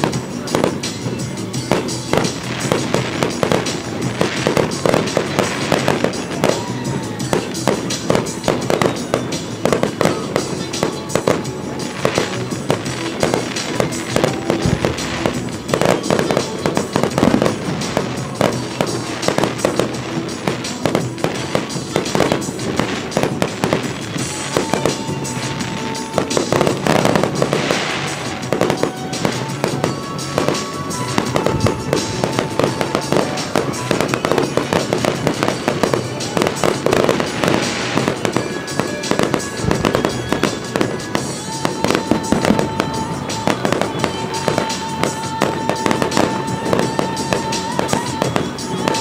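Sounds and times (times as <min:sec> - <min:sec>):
fireworks bangs and crackling: 0:00.0 - 0:49.0
music: 0:00.0 - 0:49.0.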